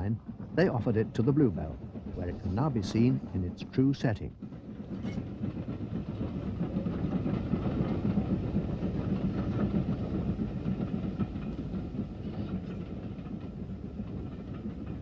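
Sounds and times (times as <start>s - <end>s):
steam train passing: 0.0s - 15.0s.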